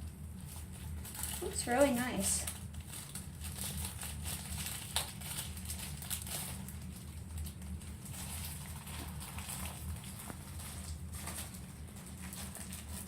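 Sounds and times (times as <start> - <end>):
packaging rustling: 0.0 - 13.0
steady low hum: 0.0 - 13.0.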